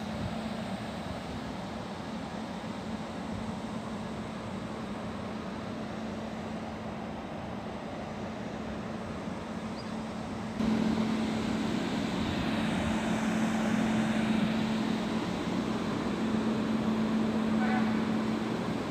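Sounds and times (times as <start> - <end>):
electric locomotive hum and rumble: 0.0 - 18.9.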